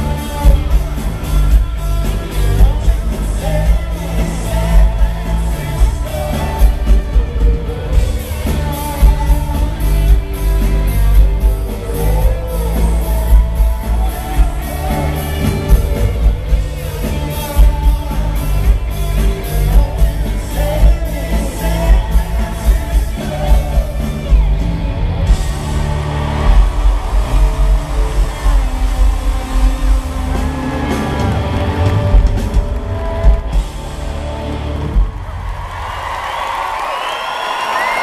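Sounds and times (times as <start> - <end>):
man singing lead: 0.0 - 33.6
live pop-rock band: 0.0 - 38.0.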